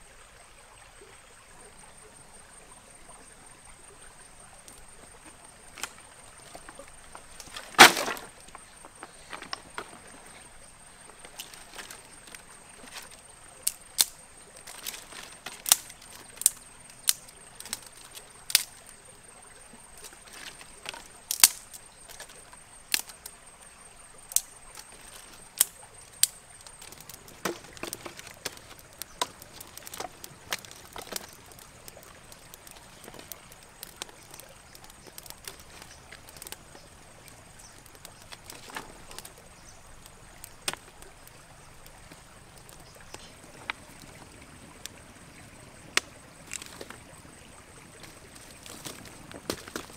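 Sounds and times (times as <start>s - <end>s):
crackling fire: 1.7s - 49.9s
dry wood snapping: 4.6s - 10.4s, 11.0s - 19.0s, 19.9s - 23.4s, 24.3s - 44.2s, 45.9s - 47.1s, 48.0s - 49.9s.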